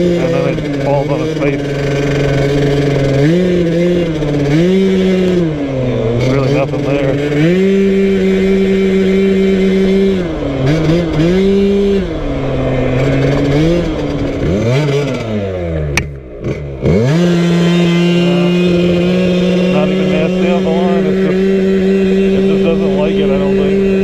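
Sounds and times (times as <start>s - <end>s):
scooter engine at high revs: 0.0s - 24.0s.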